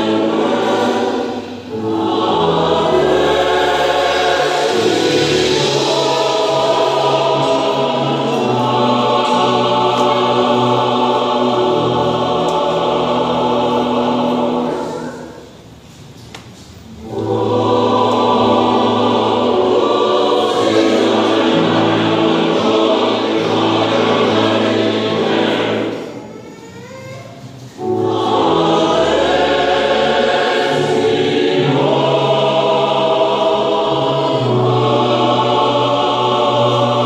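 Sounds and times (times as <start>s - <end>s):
mixed choir singing: 0.0s - 15.8s, 16.8s - 26.5s, 27.4s - 37.0s.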